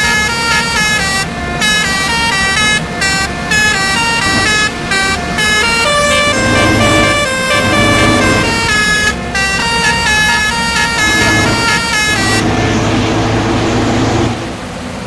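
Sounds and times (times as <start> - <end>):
multi-tone bus air horn melody: 0.0 - 14.8
low engine rumble: 0.0 - 15.0.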